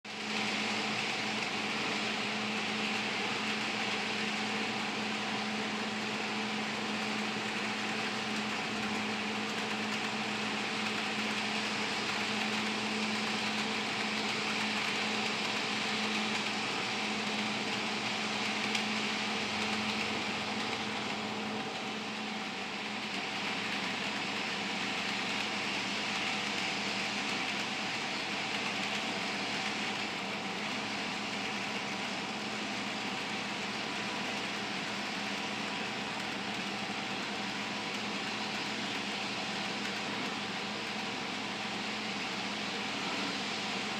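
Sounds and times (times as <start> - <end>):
model train motor whirring: 0.1 - 43.9
wheels rolling on rails: 0.1 - 43.9.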